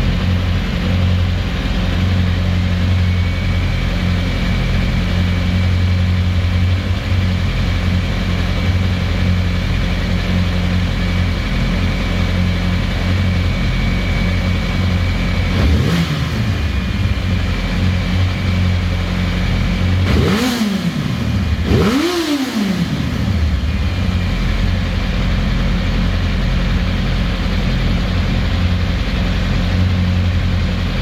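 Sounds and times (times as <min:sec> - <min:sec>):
motorcycle engine idling roughly: 0:00.0 - 0:31.0.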